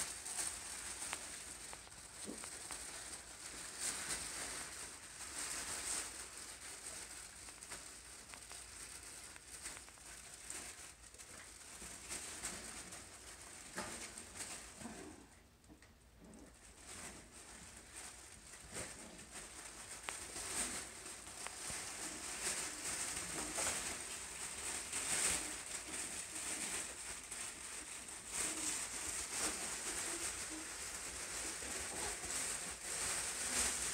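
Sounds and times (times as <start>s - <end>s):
puppies scuffling on fabric: 0.0s - 15.4s, 16.2s - 33.9s.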